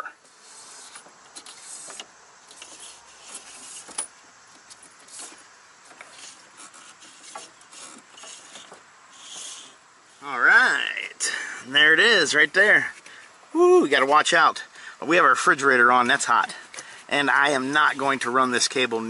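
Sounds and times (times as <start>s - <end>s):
low steady hiss: 0.0s - 19.0s.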